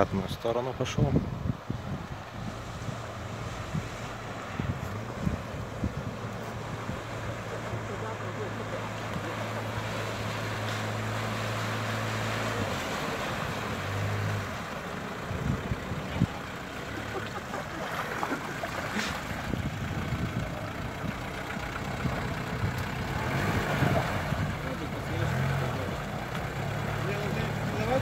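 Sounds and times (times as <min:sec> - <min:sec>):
water splashing: 0:02.2 - 0:28.0
truck engine running: 0:03.2 - 0:28.0.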